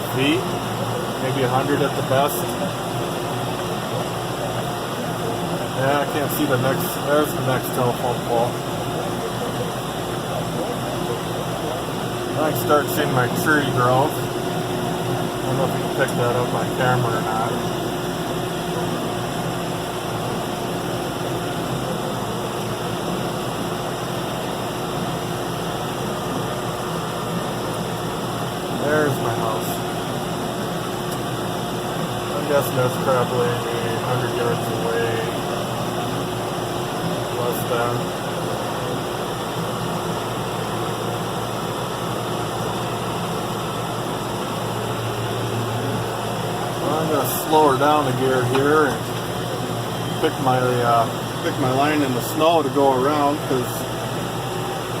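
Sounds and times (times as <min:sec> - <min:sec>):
cab heater fan blowing: 0:00.0 - 0:55.0
tractor diesel engine running: 0:00.0 - 0:55.0.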